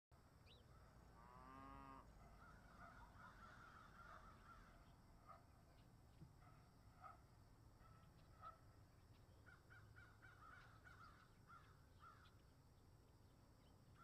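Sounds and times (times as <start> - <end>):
distant bird calls: 0.4 - 7.2, 7.8 - 14.0.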